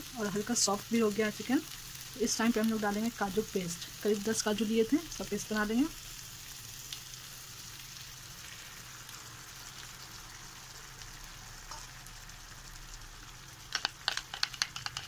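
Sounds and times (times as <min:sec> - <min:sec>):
chicken frying in a pan: 0:00.0 - 0:15.0.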